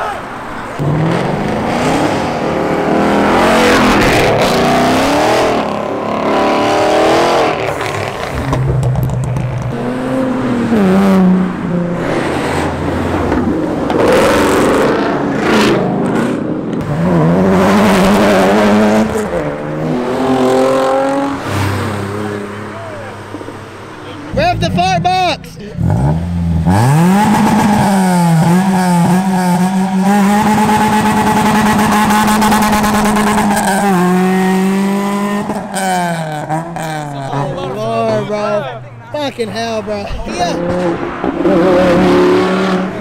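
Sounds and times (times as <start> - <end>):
cars accelerating past: 0.0 - 43.0.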